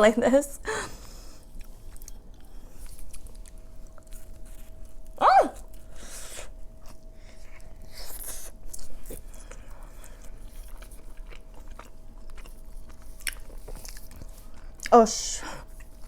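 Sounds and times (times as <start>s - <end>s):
biting and chewing food: 1.4s - 15.0s.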